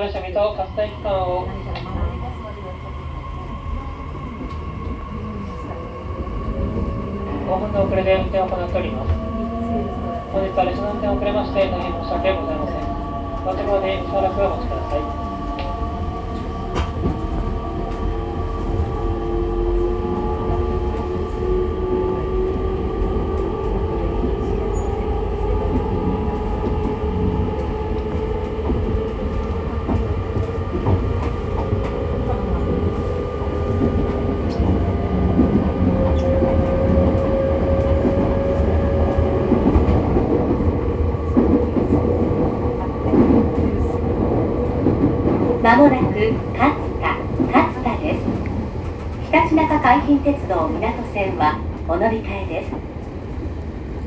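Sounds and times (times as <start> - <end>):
train wheel and rail rumble: 0.0 - 54.0.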